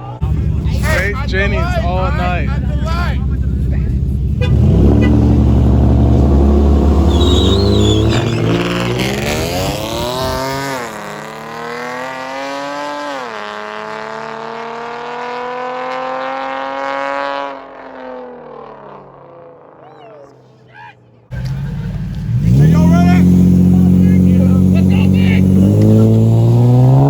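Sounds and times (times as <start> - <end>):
car engine accelerating hard: 0.0 - 19.8, 21.3 - 27.0.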